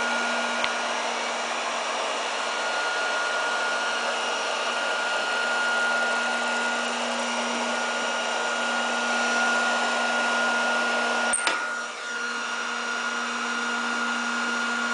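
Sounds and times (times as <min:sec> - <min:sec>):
hot-air blower rushing and whining: 0:00.0 - 0:14.9.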